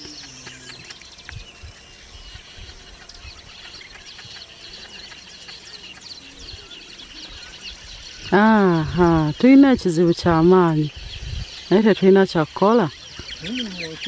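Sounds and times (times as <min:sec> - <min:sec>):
weaver birds chattering: 0:00.0 - 0:14.0.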